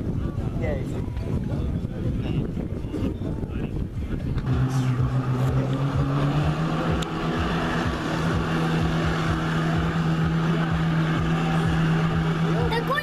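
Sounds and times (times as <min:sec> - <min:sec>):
jet ski engine at high throttle: 0:00.0 - 0:13.0.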